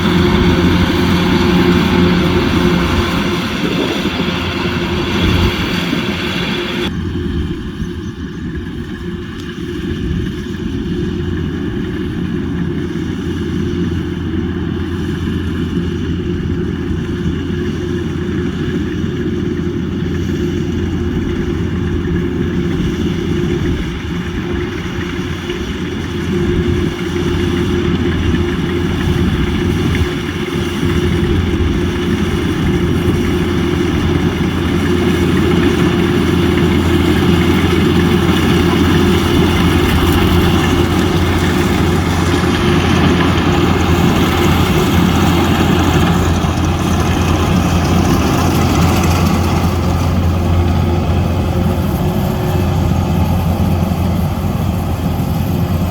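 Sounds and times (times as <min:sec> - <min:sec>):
combine harvester engine running: 0:00.0 - 0:55.9.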